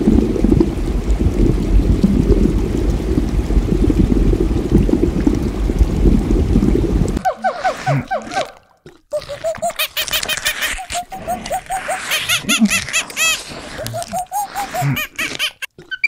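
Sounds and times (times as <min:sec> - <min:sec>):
aquarium water bubbling: 0:00.0 - 0:16.0.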